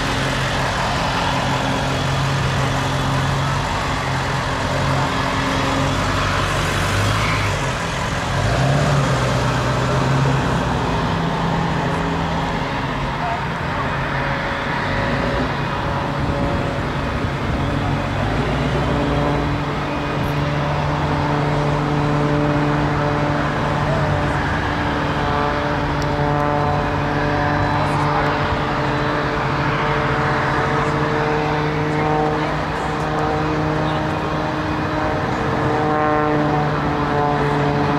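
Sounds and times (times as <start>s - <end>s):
aircraft engine droning: 0.0s - 37.9s.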